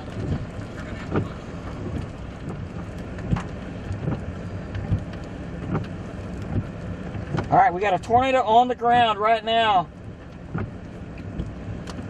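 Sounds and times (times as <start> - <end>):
car engine running: 0.0 - 12.0
wind: 0.0 - 12.0.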